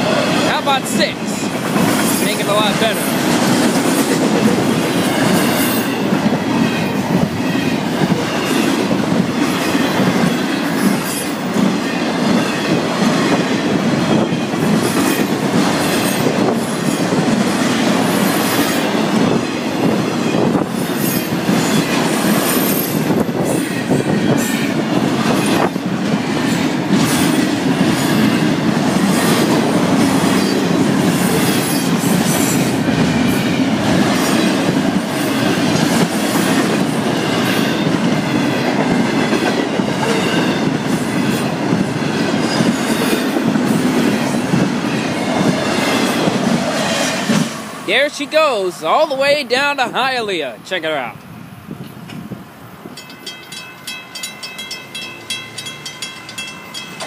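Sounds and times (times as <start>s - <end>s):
train wheels rumbling on rails: 0.0s - 49.8s, 51.2s - 57.0s.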